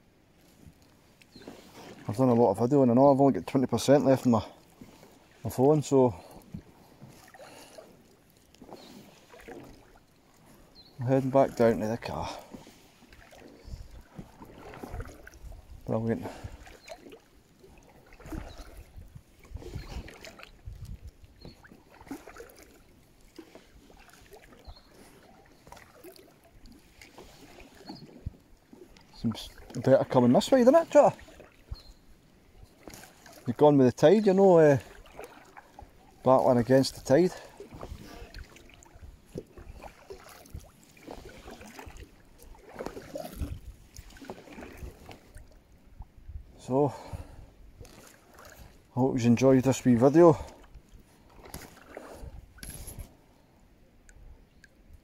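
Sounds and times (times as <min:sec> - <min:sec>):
paddle splashing in water: 0:00.0 - 0:53.3.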